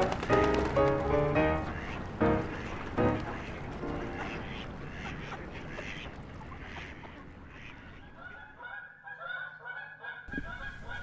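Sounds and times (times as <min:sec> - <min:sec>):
birds honking: 0:00.0 - 0:11.0.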